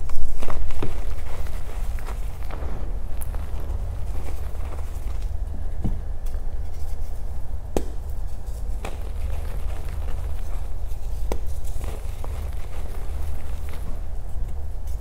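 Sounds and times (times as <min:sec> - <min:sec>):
chalk being crushed: 0:00.0 - 0:15.0
low rumble: 0:00.0 - 0:15.0.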